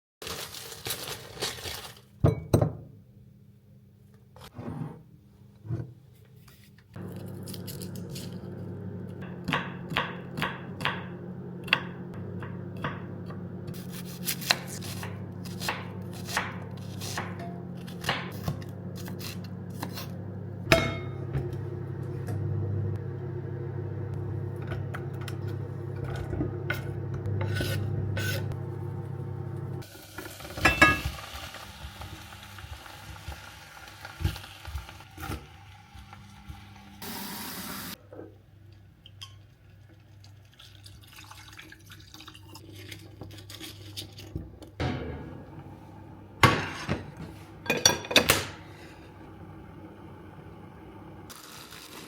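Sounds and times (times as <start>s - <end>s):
appliance hum: 0.3s - 52.0s.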